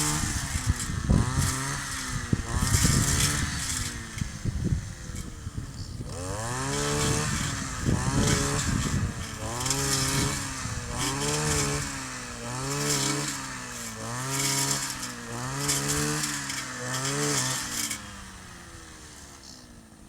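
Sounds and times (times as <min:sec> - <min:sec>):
brush cutter engine revving: 0:00.0 - 0:20.0.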